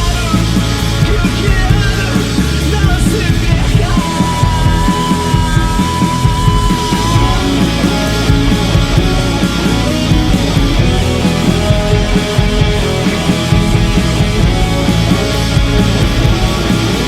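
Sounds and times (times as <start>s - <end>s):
garage rock band playing: 0.0s - 17.0s.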